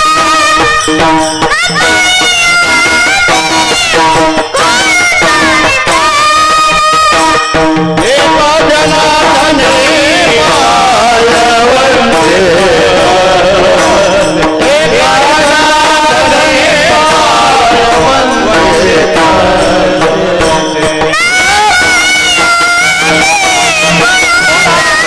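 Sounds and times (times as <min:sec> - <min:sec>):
boy singing devotional melody: 0:00.0 - 0:25.0
instrumental drone: 0:00.0 - 0:25.0.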